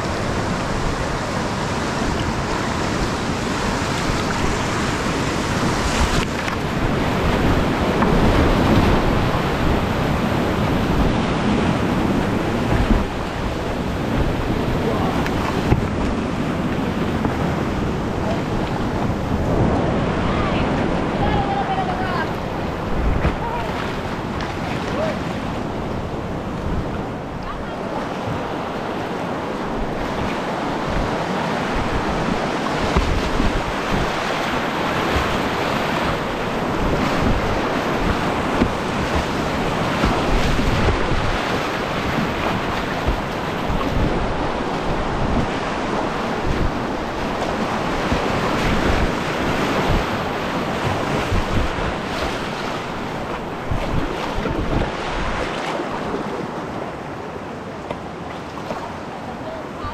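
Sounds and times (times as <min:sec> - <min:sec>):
wind buffeting microphone: 0:00.0 - 0:56.8
rushing whitewater: 0:00.0 - 0:59.9.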